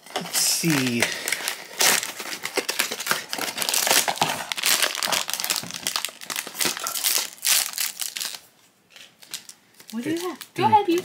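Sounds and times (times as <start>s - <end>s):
cardboard packaging crinkling and tearing: 0.0s - 8.5s, 9.2s - 11.0s.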